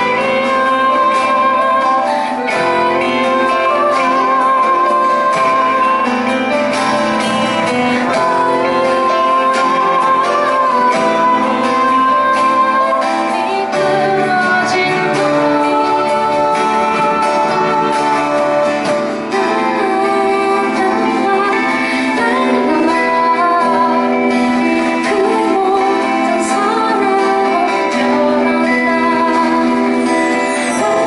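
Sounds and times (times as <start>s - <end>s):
live band playing: 0.0s - 31.0s
woman singing long notes: 0.0s - 31.0s.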